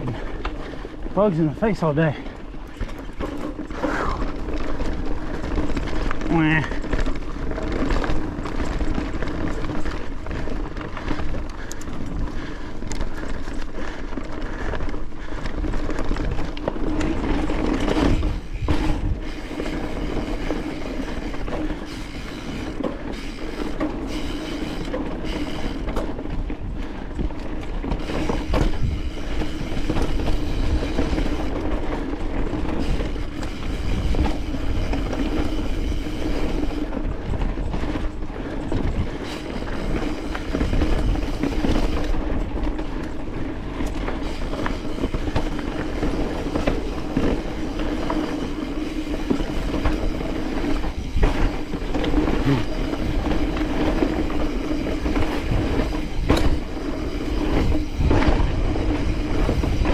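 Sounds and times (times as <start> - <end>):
bike mechanical clatter: 0.0 - 59.9
bike tyres on rocky trail: 0.0 - 59.9.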